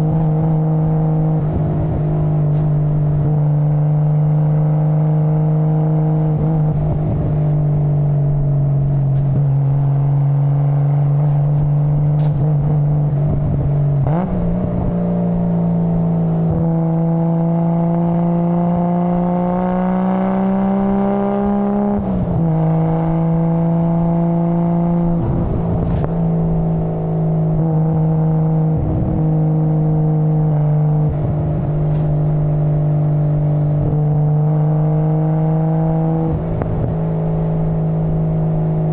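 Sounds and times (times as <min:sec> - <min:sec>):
car engine and exhaust running: 0:00.0 - 0:38.9.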